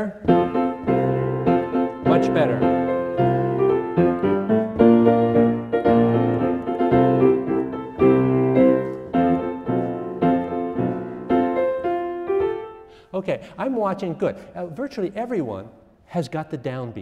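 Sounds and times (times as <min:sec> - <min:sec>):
piano piece: 0:00.0 - 0:14.8.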